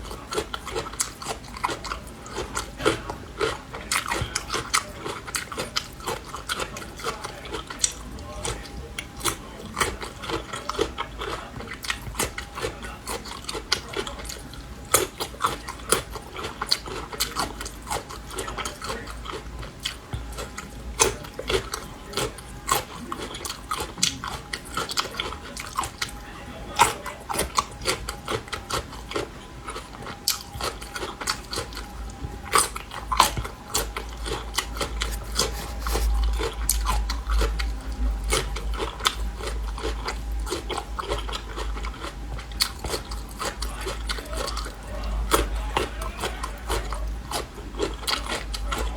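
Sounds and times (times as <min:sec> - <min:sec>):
crunching and chewing pickled garlic: 0:00.0 - 0:48.9.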